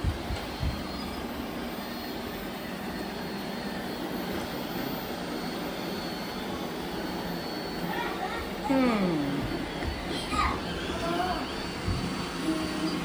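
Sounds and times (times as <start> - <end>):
robot vacuums whirring: 0.0 - 13.0.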